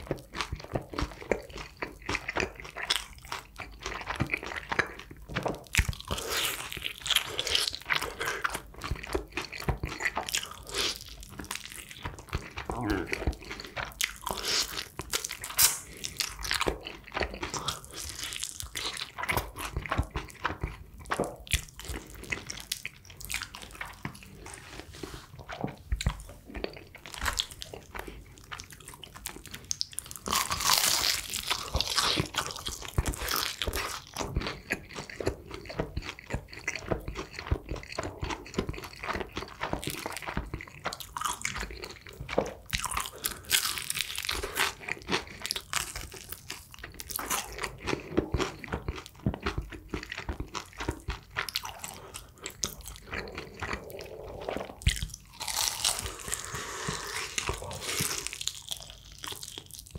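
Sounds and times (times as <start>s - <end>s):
crunching and chewing fried chicken: 0.0s - 59.9s.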